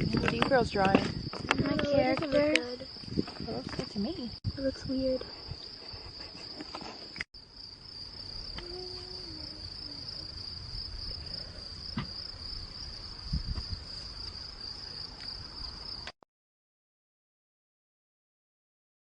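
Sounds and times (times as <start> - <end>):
crickets trilling: 0.0 - 16.1.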